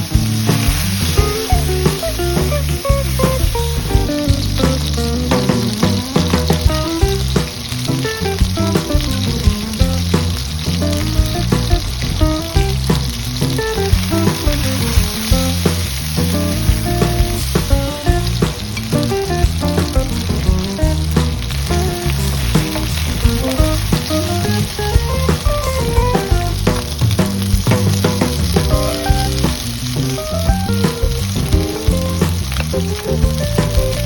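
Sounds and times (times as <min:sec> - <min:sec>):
background music with plucked melody: 0:00.0 - 0:34.0
food sizzling in hot oil: 0:00.0 - 0:34.0.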